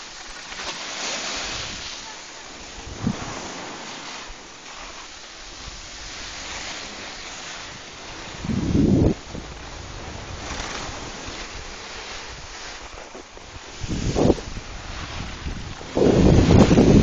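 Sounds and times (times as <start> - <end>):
skis scraping over snow: 0.0 - 17.0
wind buffeting microphone: 1.4 - 4.5, 5.4 - 17.0.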